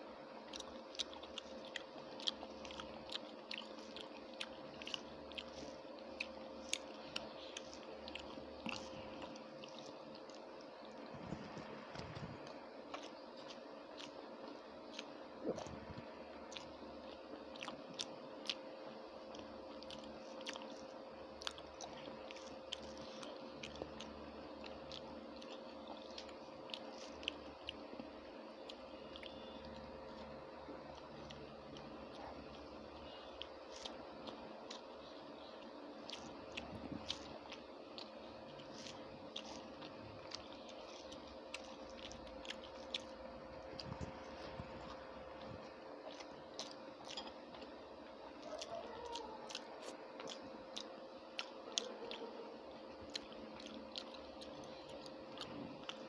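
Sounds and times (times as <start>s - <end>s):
mouth clicks and smacks chewing: 0.4s - 56.0s.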